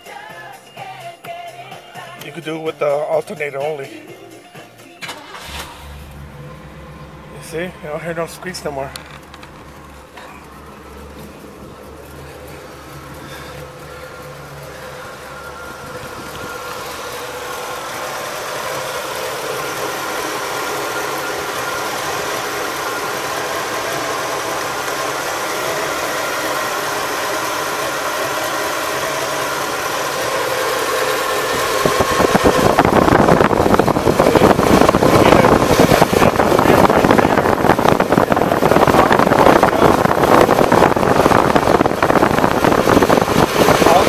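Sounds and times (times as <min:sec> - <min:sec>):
car engine idling: 0:00.0 - 0:44.0
rushing noise: 0:05.0 - 0:44.0.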